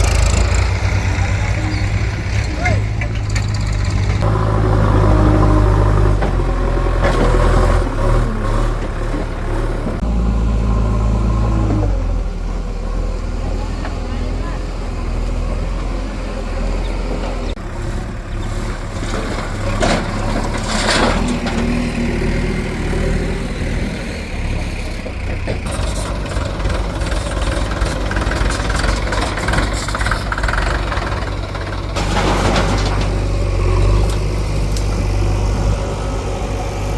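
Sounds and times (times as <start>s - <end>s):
diesel engine rumbling: 0.0s - 36.9s.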